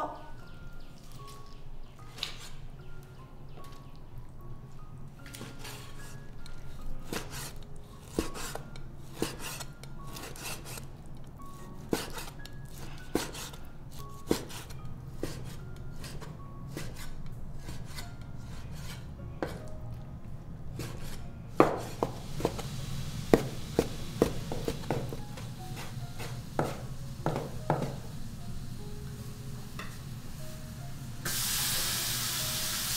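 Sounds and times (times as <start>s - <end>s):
soft background music: 0.0s - 32.9s.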